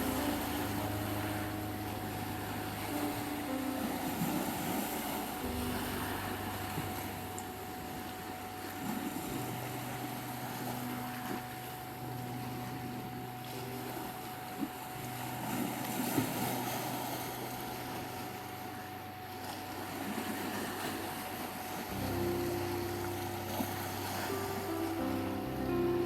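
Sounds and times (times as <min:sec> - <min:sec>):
constant pure tone: 0:00.0 - 0:26.0
sea waves: 0:00.0 - 0:26.0
slow held low music notes: 0:00.0 - 0:26.0.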